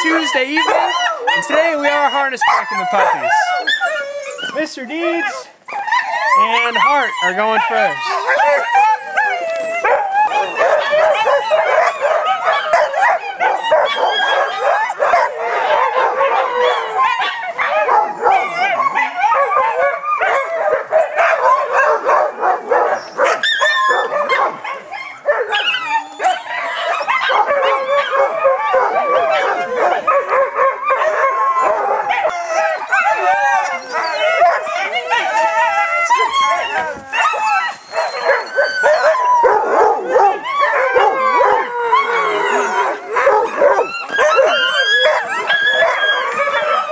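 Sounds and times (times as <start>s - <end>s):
huskies screaming and howling: 0.0s - 46.9s.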